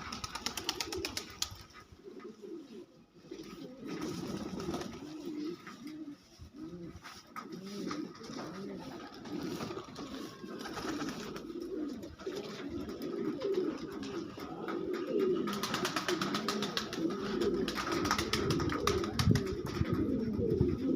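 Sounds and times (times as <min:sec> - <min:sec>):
pigeons cooing: 0:00.0 - 0:20.9.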